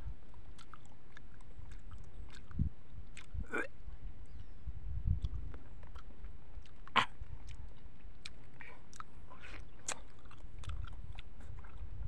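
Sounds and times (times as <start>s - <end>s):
man chewing mango: 0.0s - 12.0s
mouth clicks: 0.6s - 3.7s, 5.2s - 11.9s.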